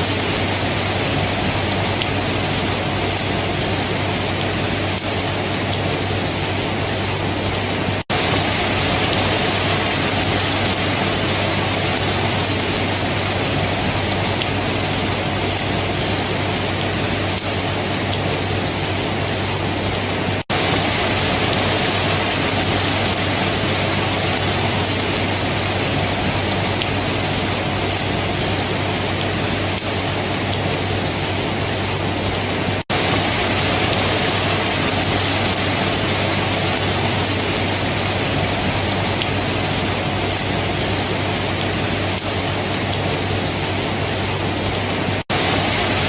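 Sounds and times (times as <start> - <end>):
heavy rain hiss: 0.0 - 46.0.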